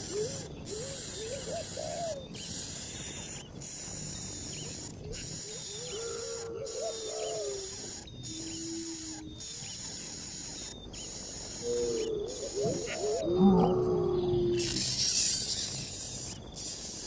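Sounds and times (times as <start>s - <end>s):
bird calls: 0.0s - 17.0s
high insect-like drone: 0.0s - 17.0s.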